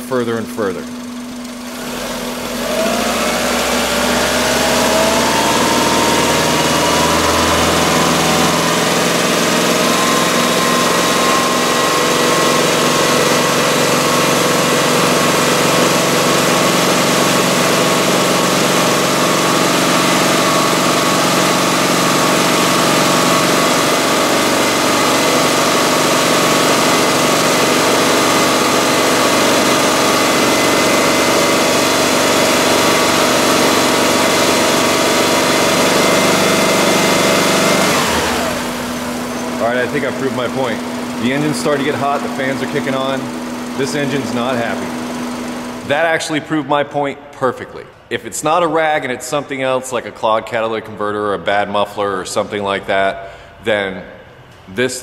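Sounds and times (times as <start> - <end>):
car engine revving: 0.8 - 46.4.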